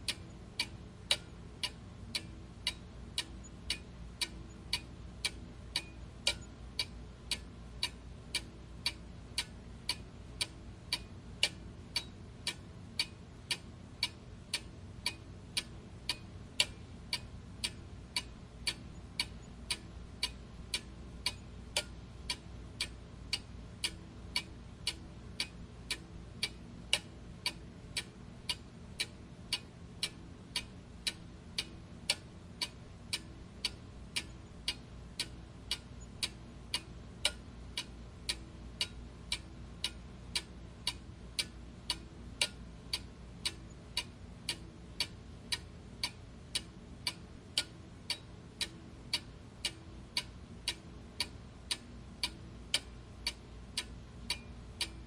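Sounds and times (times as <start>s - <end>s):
clock ticking: 0.0s - 55.0s
faint low hum: 0.0s - 55.0s.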